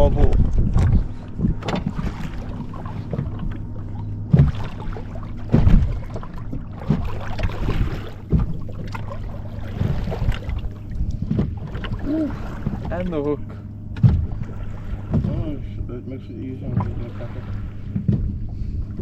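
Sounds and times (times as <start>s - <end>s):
outboard motor running: 0.0s - 19.0s
wind: 0.0s - 19.0s
knocks on boat: 0.1s - 15.8s, 16.6s - 19.0s
water rushing: 1.5s - 18.0s.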